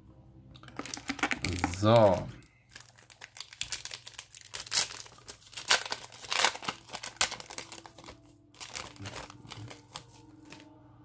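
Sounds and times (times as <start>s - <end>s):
foil wrapper crinkling: 0.6s - 10.6s.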